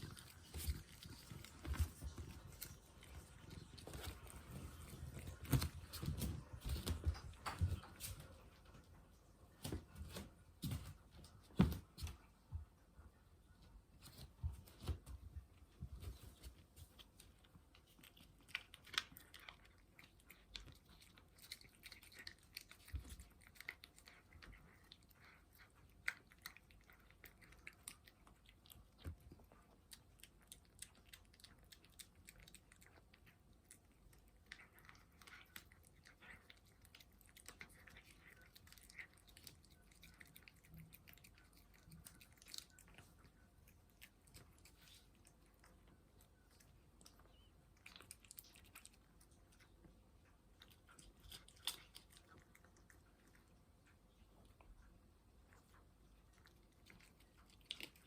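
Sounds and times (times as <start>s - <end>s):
cat chewing and eating: 0.0s - 58.0s.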